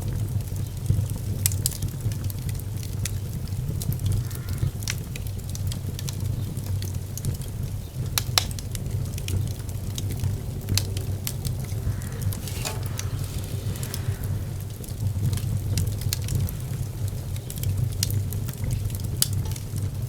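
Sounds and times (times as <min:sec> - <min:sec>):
fire crackling and popping: 0:00.2 - 0:20.0.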